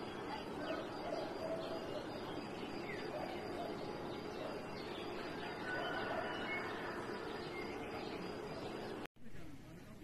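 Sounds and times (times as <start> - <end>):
birds chirping: 0.0 - 9.1
steady background hiss: 0.0 - 10.0.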